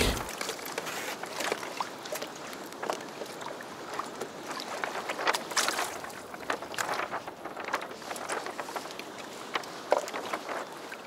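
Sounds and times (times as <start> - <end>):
water washing along kayak hull: 0.0 - 11.0
small splashes and ticks: 0.3 - 11.0.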